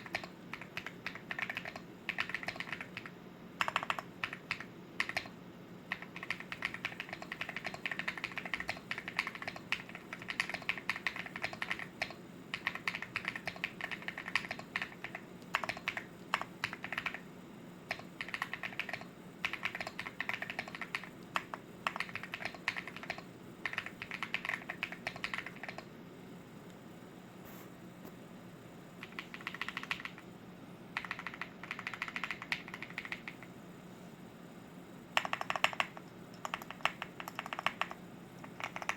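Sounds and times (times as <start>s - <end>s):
mechanical keyboard typing: 0.0s - 5.3s, 5.9s - 17.2s, 17.9s - 25.9s, 29.0s - 30.2s, 31.0s - 33.5s, 35.2s - 38.9s.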